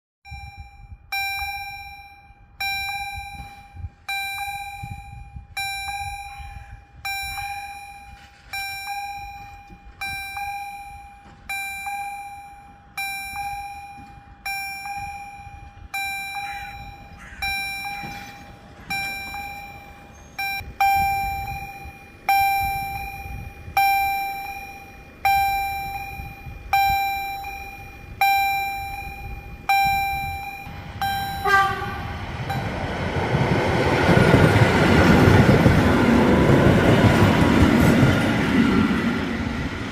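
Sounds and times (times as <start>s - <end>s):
crossing warning bell dinging: 0.2s - 39.9s.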